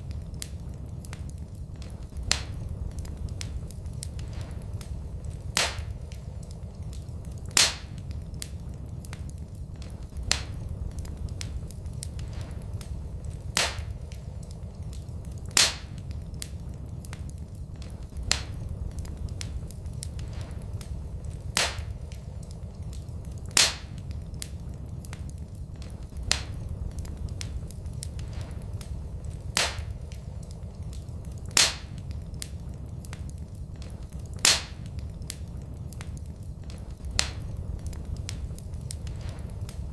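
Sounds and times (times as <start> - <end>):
low rumble of flames: 0.0 - 39.9
wood fire popping: 0.0 - 39.9.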